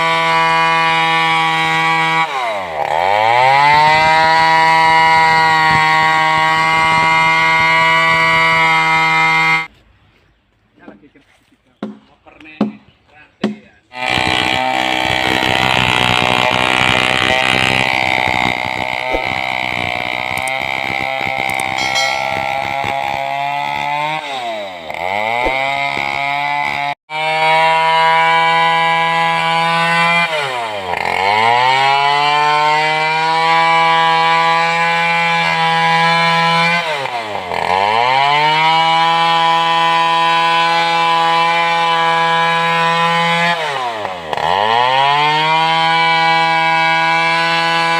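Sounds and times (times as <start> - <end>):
chainsaw cutting wood: 0.0 - 9.7, 13.9 - 47.9
chainsaw revving: 0.0 - 9.7, 13.9 - 47.9.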